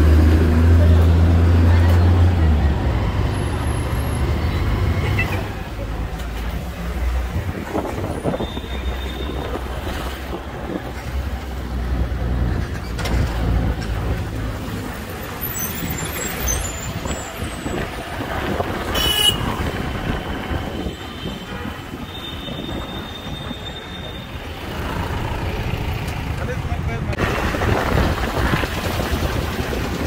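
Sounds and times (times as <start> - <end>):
motorbike engine and road rumble: 0.0 - 30.0
passing vehicles: 0.0 - 30.0.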